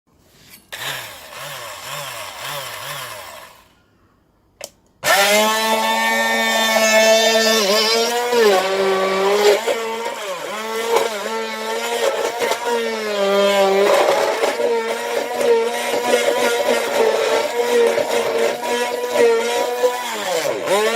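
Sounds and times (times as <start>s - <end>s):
immersion blender motor whining: 0.8s - 3.7s, 5.0s - 20.9s.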